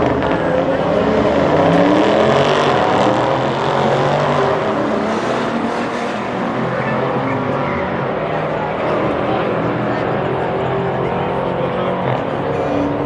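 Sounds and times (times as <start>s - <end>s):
car engines at full throttle: 0.0s - 13.0s.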